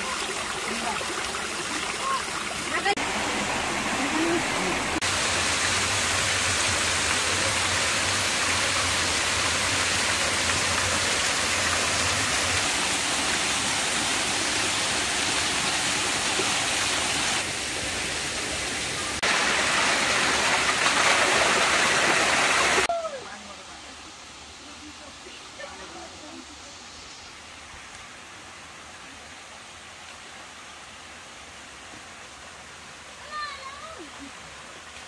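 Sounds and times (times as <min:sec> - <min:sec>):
mountain stream rushing: 0:00.0 - 0:35.0.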